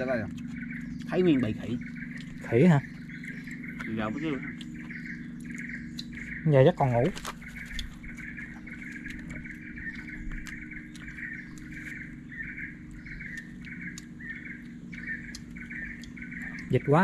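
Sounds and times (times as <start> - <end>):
birds chirping rapidly: 0.0 - 17.0
steady low hum: 0.0 - 17.0.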